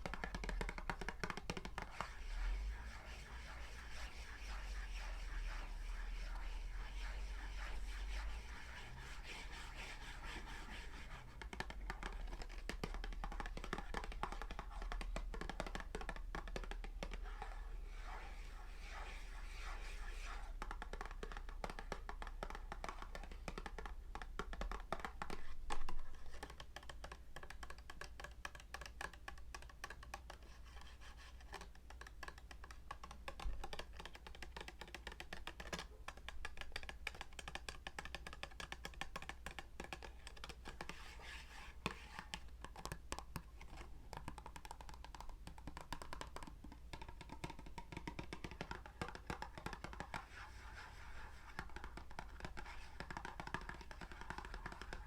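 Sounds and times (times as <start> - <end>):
light tapping and scratching: 0.0 - 55.0.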